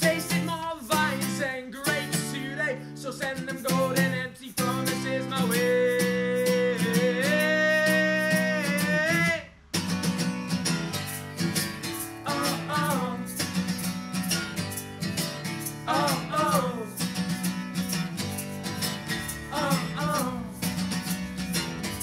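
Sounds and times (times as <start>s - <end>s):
live band with guitar: 0.0s - 22.0s.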